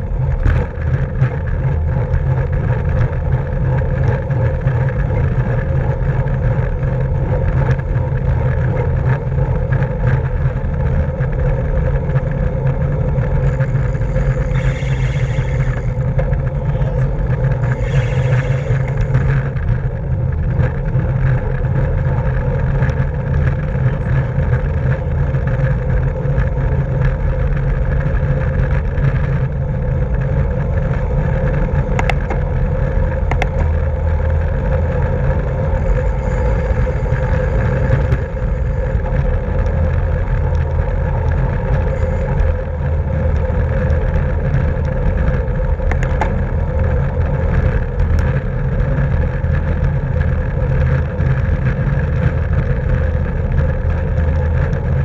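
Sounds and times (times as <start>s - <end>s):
wind and bicycle road noise: 0.0s - 55.0s.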